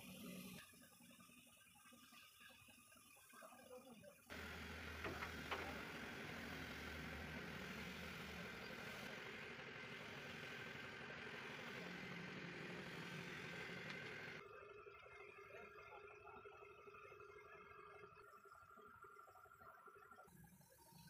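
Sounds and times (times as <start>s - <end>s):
machine running with hiss and hum: 0.0s - 21.0s.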